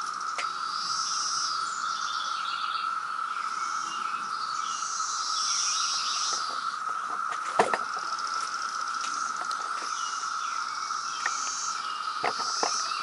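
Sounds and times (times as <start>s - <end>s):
birds calling: 0.0s - 13.0s
cicadas droning: 0.0s - 13.0s.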